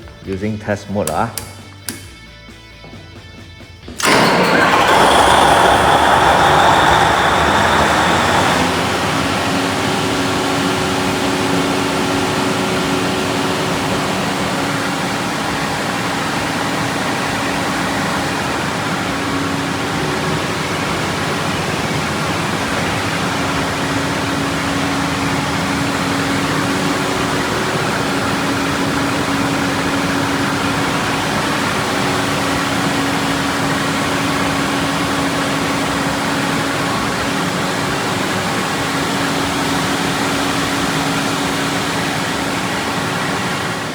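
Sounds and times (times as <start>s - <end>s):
generator engine running: 4.0s - 43.9s.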